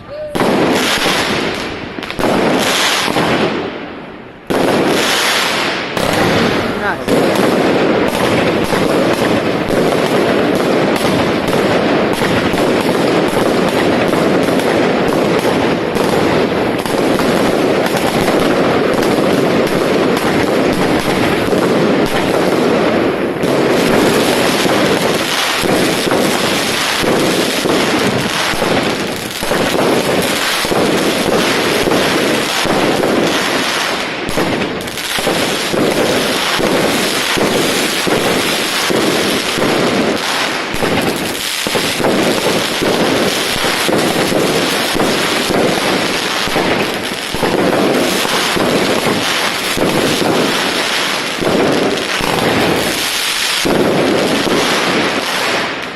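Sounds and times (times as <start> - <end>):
fireworks bangs and crackle: 0.0 - 55.9.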